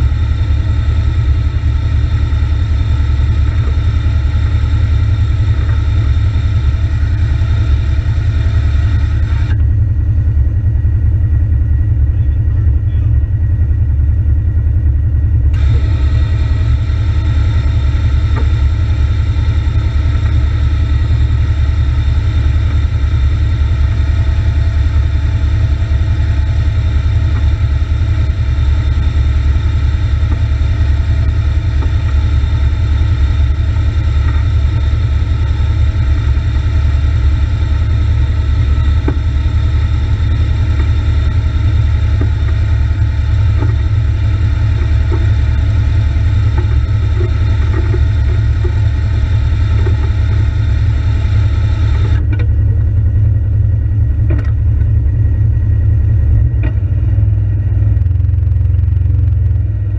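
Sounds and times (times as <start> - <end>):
steady high whine: 0.0 - 59.9
vehicle engine idling: 0.0 - 59.9.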